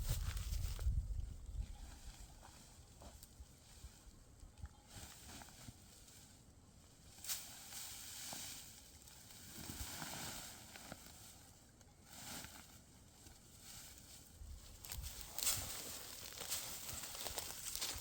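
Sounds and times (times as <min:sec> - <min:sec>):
faint rustling and crackling: 0:00.0 - 0:18.0.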